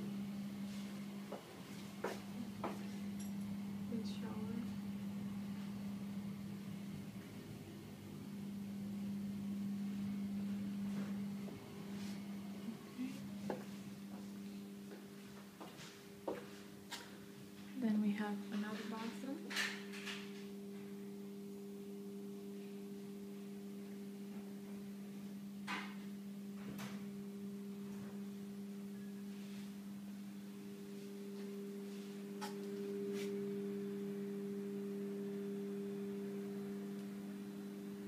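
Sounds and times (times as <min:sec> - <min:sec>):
steady electrical hum: 0:00.0 - 0:38.0.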